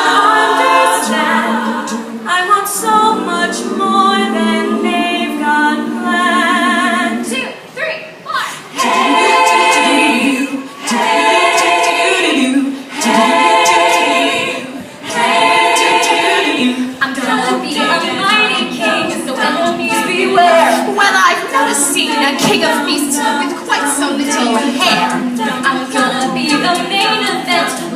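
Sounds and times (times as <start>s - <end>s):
women singing in harmony: 0.0s - 27.9s.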